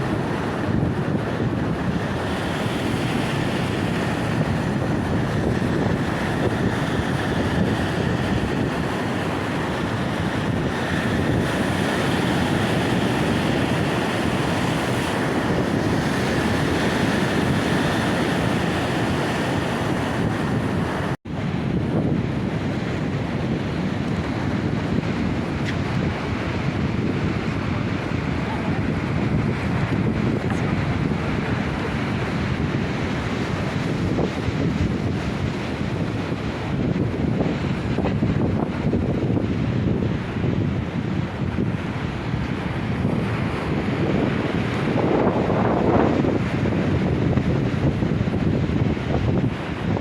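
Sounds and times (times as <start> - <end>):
surf washing on shore: 0.0 - 50.0
wind buffeting microphone: 0.0 - 50.0.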